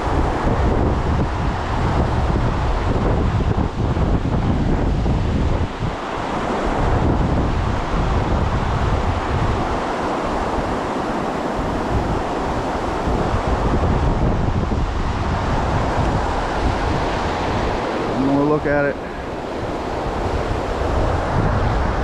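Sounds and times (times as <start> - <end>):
creek water flowing: 0.0 - 22.0
wind buffeting microphone: 0.0 - 22.0.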